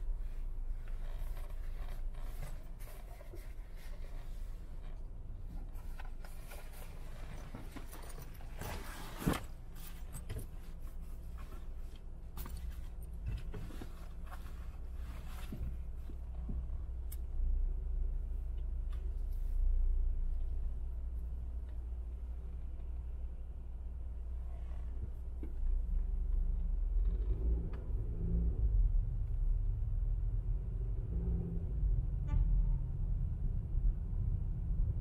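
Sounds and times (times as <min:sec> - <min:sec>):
engine and tyres rumbling: 0:00.0 - 0:35.0.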